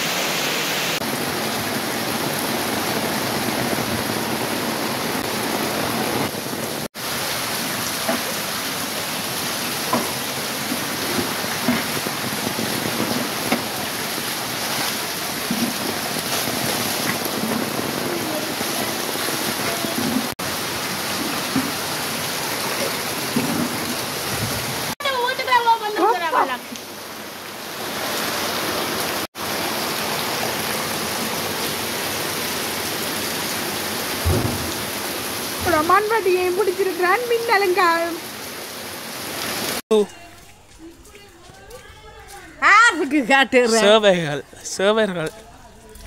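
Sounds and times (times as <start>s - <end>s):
heavy rain on floodwater: 0.0s - 42.0s.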